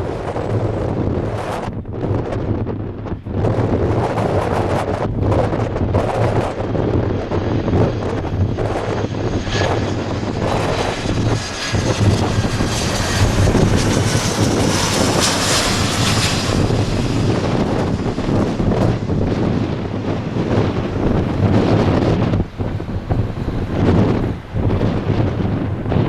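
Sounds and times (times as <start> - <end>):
wind buffeting microphone: 0.0 - 26.0
jet engines whining: 3.5 - 26.0.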